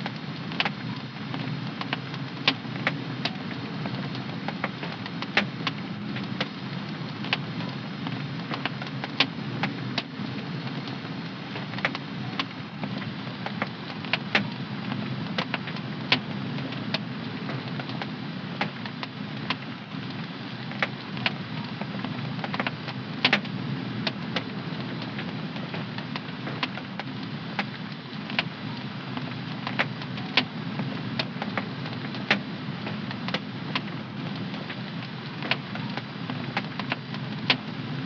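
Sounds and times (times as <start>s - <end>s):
fireplace fire crackling and popping: 0.0s - 38.0s.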